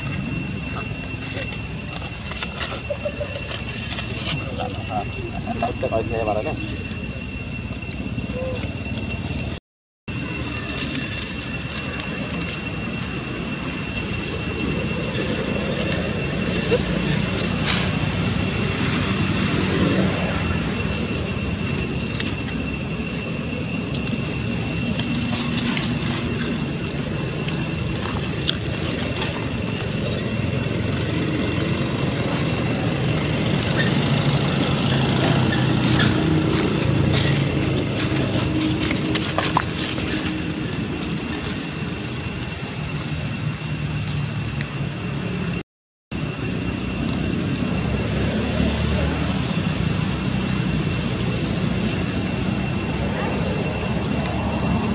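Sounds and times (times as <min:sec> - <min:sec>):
steady background drone: 0:00.0 - 0:54.9
thin high whine: 0:00.0 - 0:54.9.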